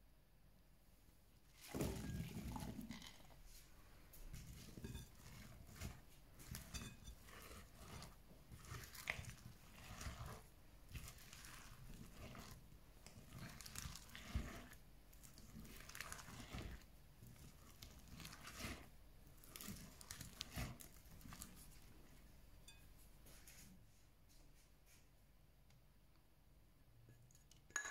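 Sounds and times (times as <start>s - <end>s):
spatula squelching and scraping batter: 1.4s - 24.0s.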